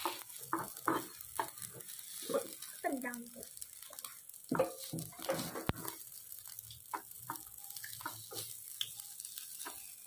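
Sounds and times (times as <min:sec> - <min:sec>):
rice sizzling in a pan: 0:00.0 - 0:10.0
tongs scraping and tapping pan: 0:00.0 - 0:10.0.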